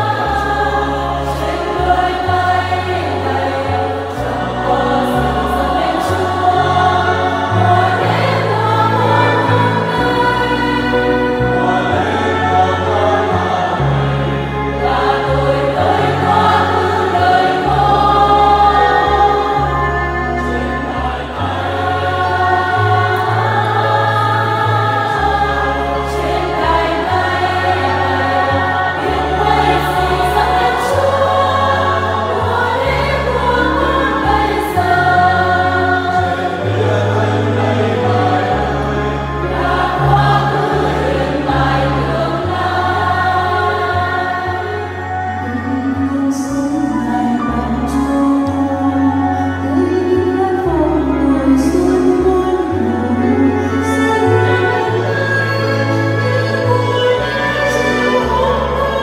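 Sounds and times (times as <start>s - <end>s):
choir singing a hymn: 0.0s - 59.0s
sustained low accompaniment notes: 0.0s - 59.0s.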